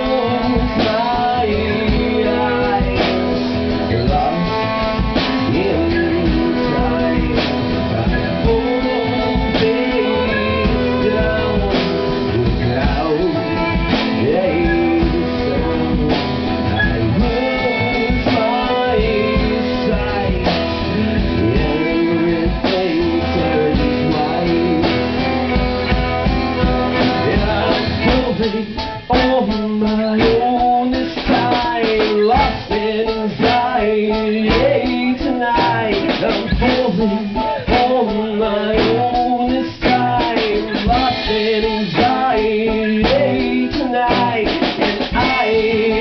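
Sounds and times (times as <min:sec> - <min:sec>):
drum kit: 0:00.0 - 0:46.0
guitar: 0:00.0 - 0:46.0
person singing: 0:00.0 - 0:46.0.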